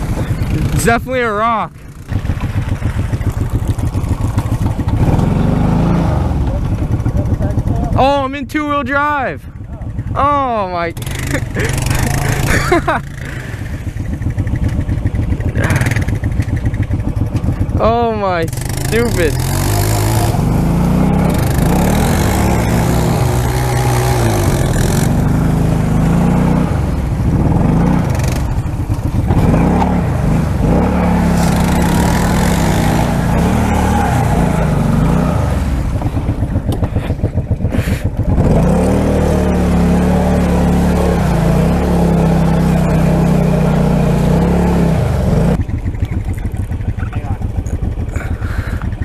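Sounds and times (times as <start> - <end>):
quad bike engine revving: 0.0 - 49.0
wheels spinning in mud: 1.8 - 8.0, 11.0 - 49.0.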